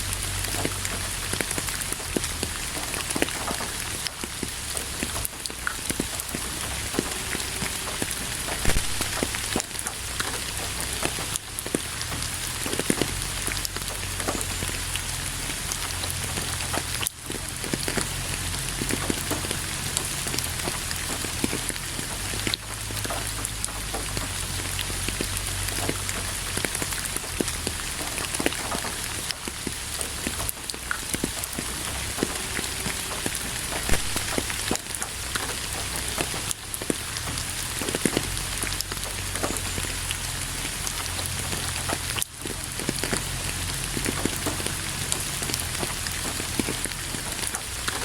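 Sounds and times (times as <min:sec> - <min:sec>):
raindrops ticking on a surface: 0:00.0 - 0:48.0
steady rain hiss: 0:00.0 - 0:48.0.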